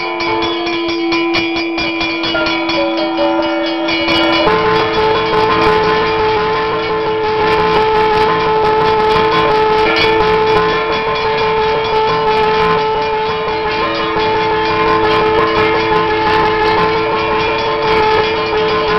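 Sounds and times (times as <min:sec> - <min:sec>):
hand bell rung rapidly: 0:00.0 - 0:18.9
held horn-like notes: 0:00.0 - 0:18.9.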